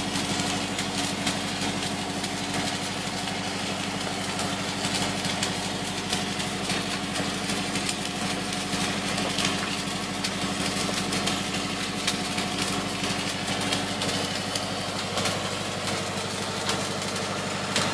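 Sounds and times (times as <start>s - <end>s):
arc welding crackle: 0.0s - 17.9s
engine running steadily: 0.0s - 17.9s.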